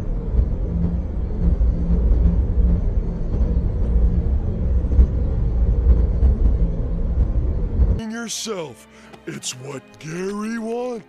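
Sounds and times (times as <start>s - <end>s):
dark ambient drone: 0.0s - 10.8s.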